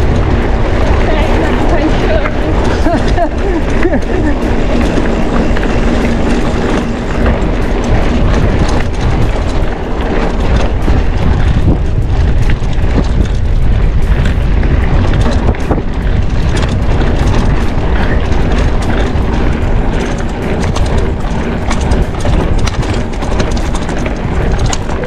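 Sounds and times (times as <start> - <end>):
bike rattles and knocks: 0.0 - 25.0
wind rumble on microphone: 0.0 - 25.0.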